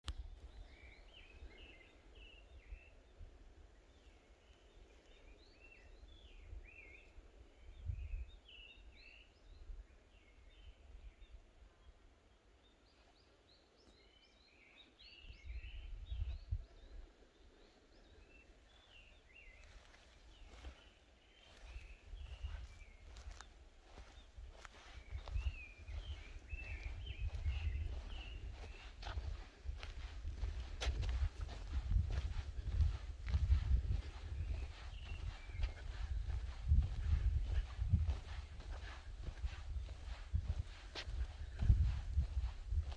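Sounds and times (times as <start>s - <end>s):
wind rumble on microphone: 0.1s - 4.2s, 4.8s - 11.8s, 15.2s - 17.2s, 21.5s - 42.9s
small birds chirping: 0.1s - 42.9s.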